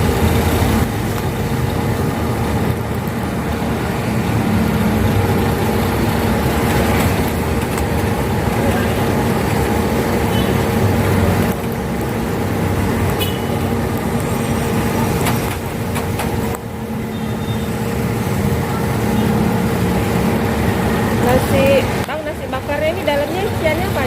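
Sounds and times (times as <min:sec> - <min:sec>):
road traffic passing close: 0:00.0 - 0:24.0.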